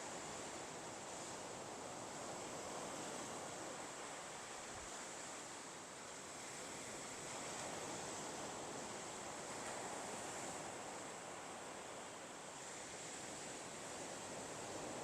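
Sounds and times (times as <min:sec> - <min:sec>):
wind on a beach: 0:00.0 - 0:15.0.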